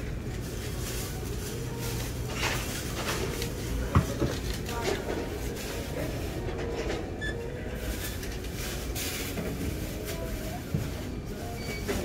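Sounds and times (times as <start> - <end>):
low hum of shop: 0.0 - 12.0.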